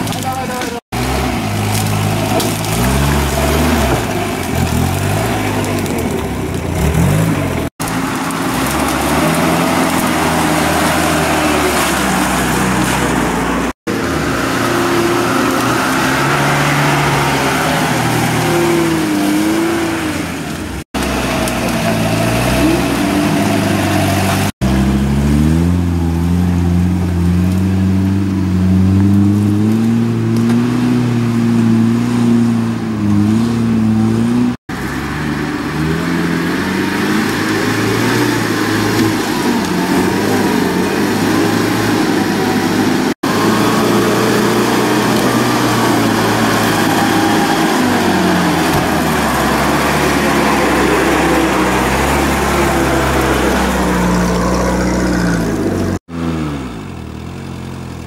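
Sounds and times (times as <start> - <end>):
off-road engines revving in mud: 0.0 - 58.0.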